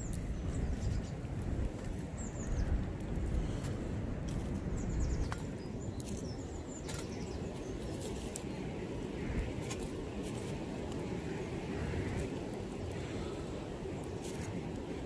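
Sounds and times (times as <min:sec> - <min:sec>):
birds chirping: 0:00.0 - 0:15.0
fire crackling in a stove: 0:00.0 - 0:15.0.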